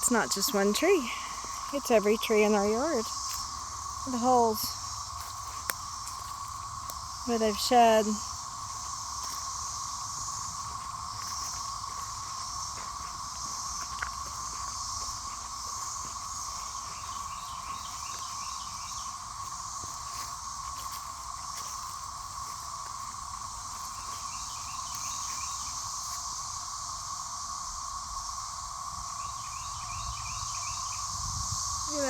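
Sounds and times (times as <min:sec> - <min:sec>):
cicadas droning: 0:00.0 - 0:32.0.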